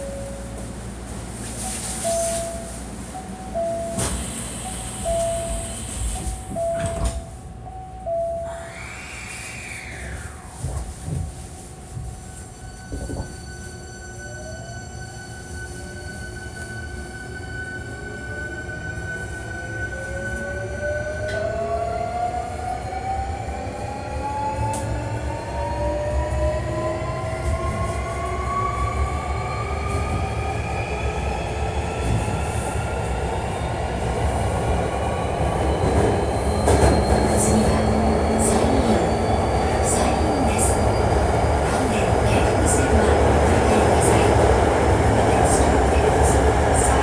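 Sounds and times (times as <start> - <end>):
train rolling noise: 0.0 - 47.0.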